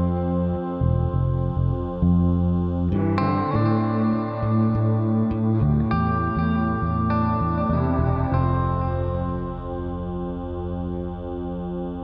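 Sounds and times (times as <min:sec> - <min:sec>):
slow ambient music: 0:00.0 - 0:12.0.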